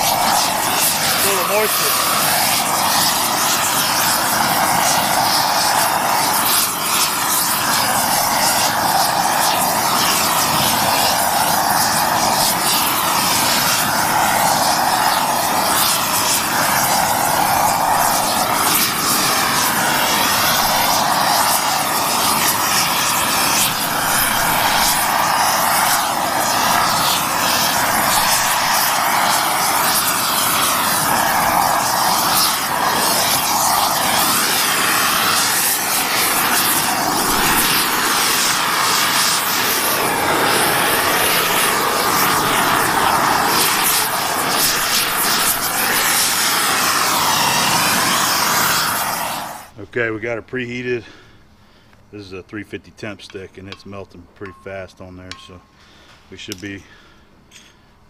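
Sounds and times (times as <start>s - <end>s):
torch flame rushing: 0.0s - 49.9s.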